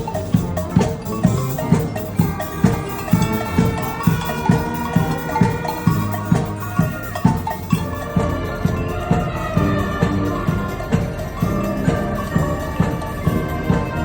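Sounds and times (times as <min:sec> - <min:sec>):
held wind notes: 0:00.0 - 0:14.0
steady drum beat: 0:00.0 - 0:14.0.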